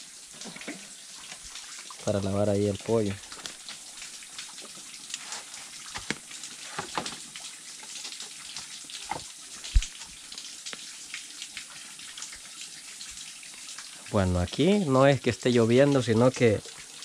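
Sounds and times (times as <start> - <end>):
water splashes: 0.0 - 14.8
water trickling and dripping: 0.0 - 17.0.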